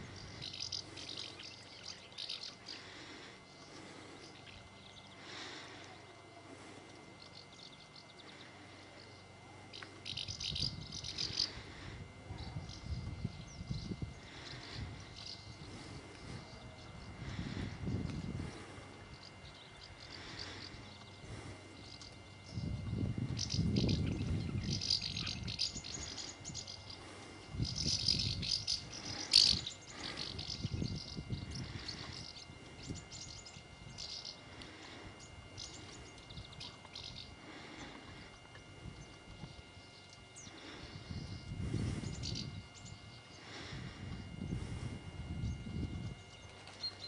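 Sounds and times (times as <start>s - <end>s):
birds twittering in flight: 0.0s - 47.0s
low rumble on microphone: 0.0s - 47.0s.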